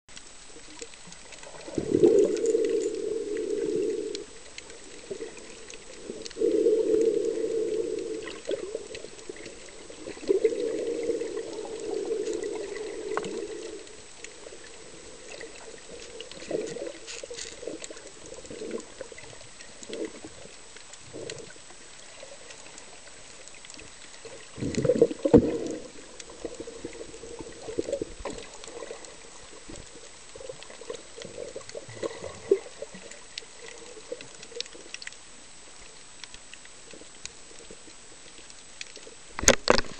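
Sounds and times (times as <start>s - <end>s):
small scattered sounds: 0.1s - 39.9s
underwater bubbles streaming: 0.1s - 39.9s.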